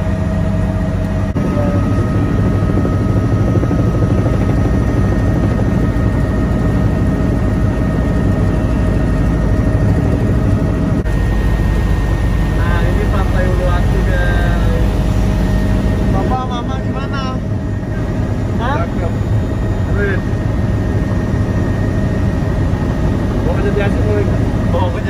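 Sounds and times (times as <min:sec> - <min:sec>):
helicopter engine and rotor drone: 0:00.0 - 0:25.0.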